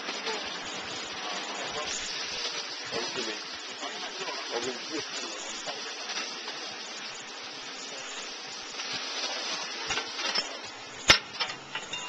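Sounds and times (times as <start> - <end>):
sharp crackles: 0.0 - 11.9
burgers sizzling on griddle: 0.0 - 12.0.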